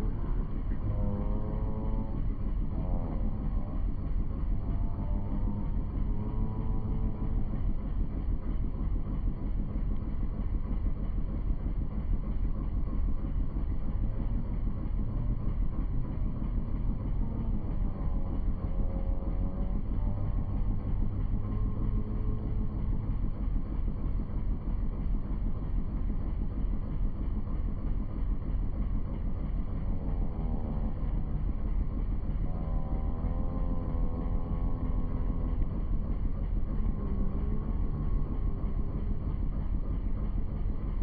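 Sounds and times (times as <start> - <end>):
boat motor running: 0.0 - 41.0.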